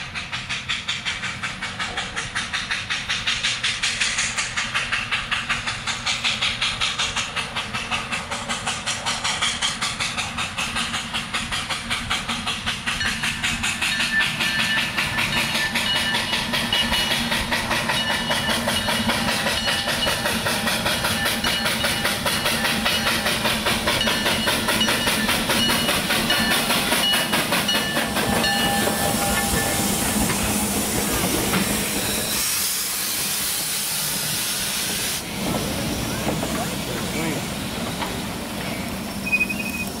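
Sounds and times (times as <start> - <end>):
hiss of steam: 0.0 - 40.0
steam locomotive exhaust chuffs: 0.0 - 40.0
train coaches rolling on rails: 0.0 - 40.0.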